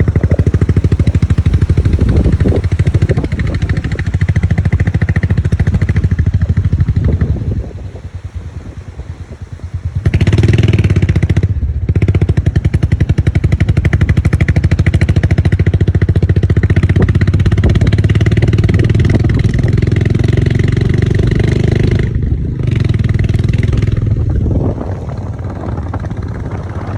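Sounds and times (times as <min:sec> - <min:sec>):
motorcycle engine pulsing: 0:00.0 - 0:26.9.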